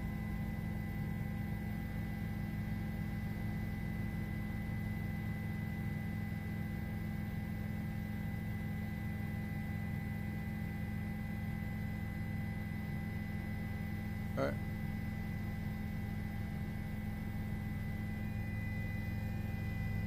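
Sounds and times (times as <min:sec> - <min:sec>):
faint high whine: 0:00.0 - 0:20.0.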